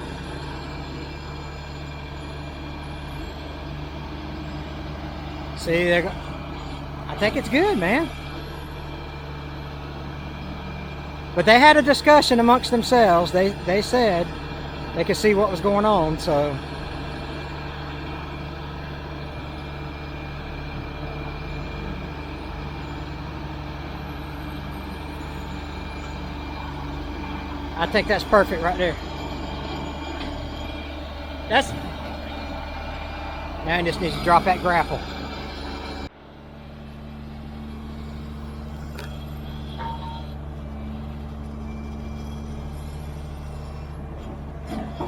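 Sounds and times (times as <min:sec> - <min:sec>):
diesel engine low hum: 0:00.0 - 0:45.0.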